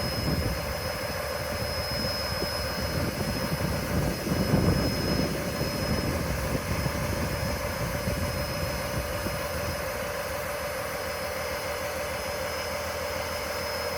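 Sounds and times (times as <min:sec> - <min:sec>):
constant whine: 0:00.0 - 0:13.9.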